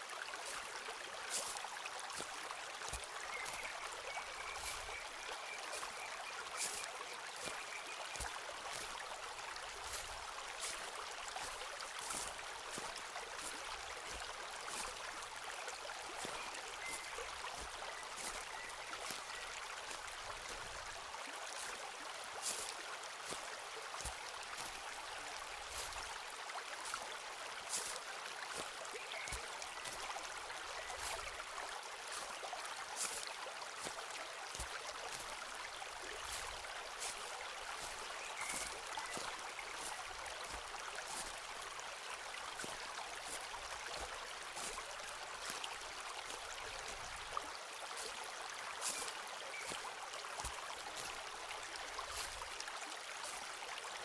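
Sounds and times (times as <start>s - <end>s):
flowing water rushing: 0.0s - 54.0s
footsteps crunching on path: 1.3s - 9.2s, 9.8s - 15.0s, 16.1s - 20.9s, 22.4s - 26.1s, 27.7s - 31.4s, 32.1s - 32.3s, 33.0s - 41.6s, 42.3s - 51.3s, 52.0s - 52.6s.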